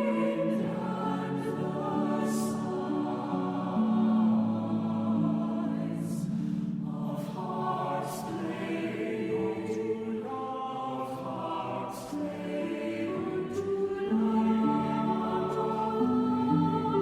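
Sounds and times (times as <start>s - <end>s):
choir-like voices in harmony: 0.0s - 17.0s.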